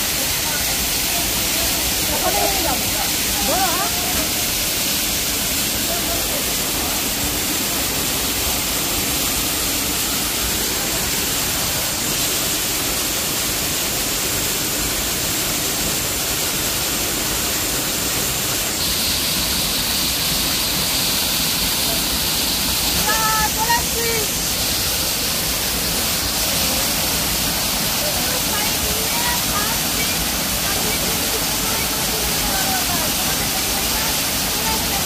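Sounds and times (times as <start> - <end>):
waterfall rushing over rock: 0.0 - 35.0.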